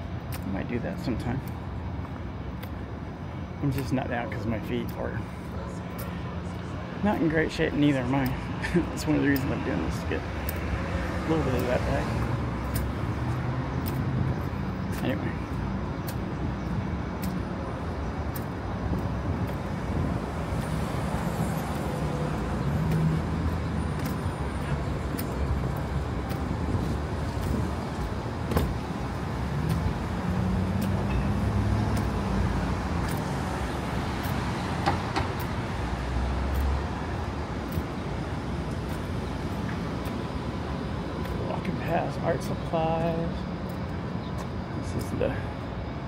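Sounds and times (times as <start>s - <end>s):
cars passing: 0.0s - 46.0s
urban background noise: 0.0s - 46.0s.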